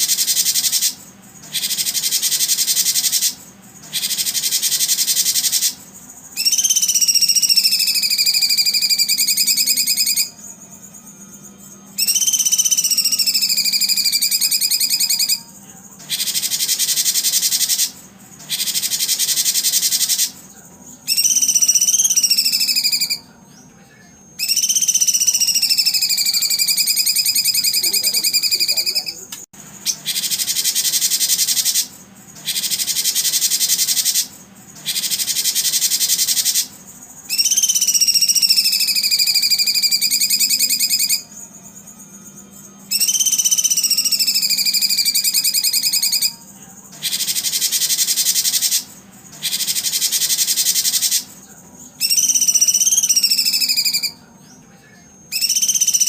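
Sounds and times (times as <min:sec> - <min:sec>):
songbird trills: 0:00.0 - 0:23.7, 0:24.4 - 0:56.0
high buzzing bird chatter: 0:00.0 - 0:56.0.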